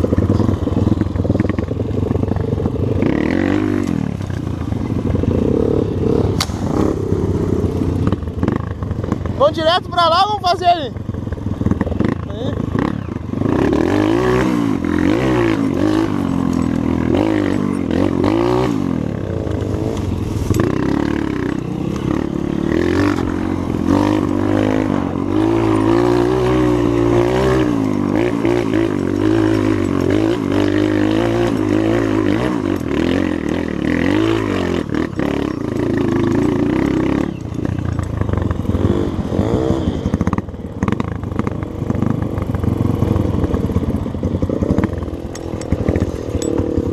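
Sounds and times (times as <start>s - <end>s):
motorcycle engine under load: 0.0s - 46.9s.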